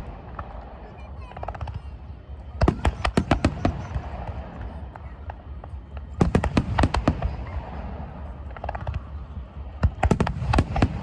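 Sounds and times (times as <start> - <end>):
fireworks bangs: 0.0 - 11.0
fireworks crackles: 0.0 - 11.0.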